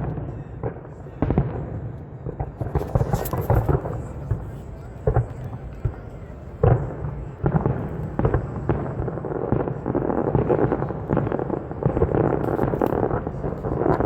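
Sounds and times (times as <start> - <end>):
firework bangs: 0.0 - 14.0
fireworks booming and crackling: 0.0 - 14.0.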